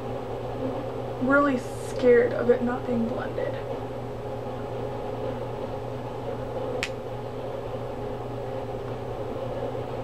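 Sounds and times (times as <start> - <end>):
room hum: 0.0 - 10.0.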